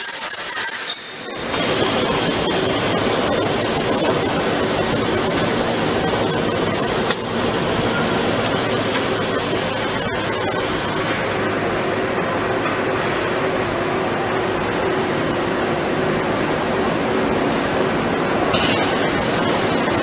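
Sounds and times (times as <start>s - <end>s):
machine running with rushing noise: 0.0s - 20.0s.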